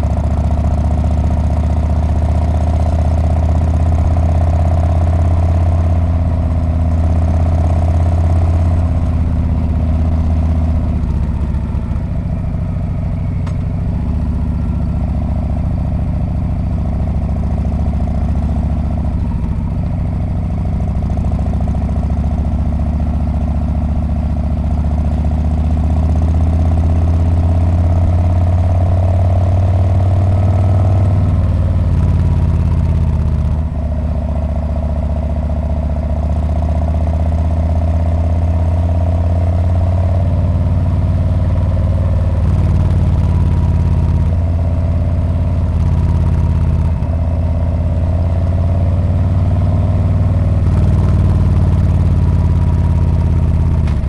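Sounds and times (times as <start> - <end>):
motorcycle engine and exhaust: 0.0 - 54.0.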